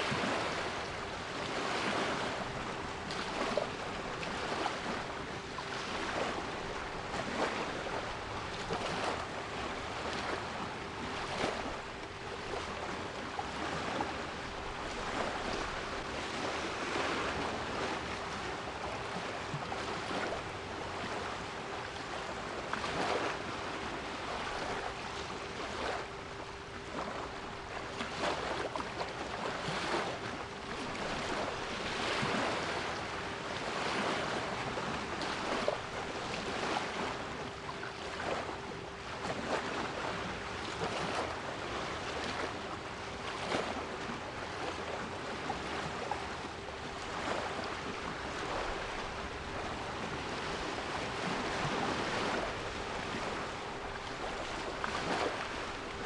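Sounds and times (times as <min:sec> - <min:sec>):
sea waves washing: 0:00.0 - 0:38.6, 0:39.2 - 0:56.0.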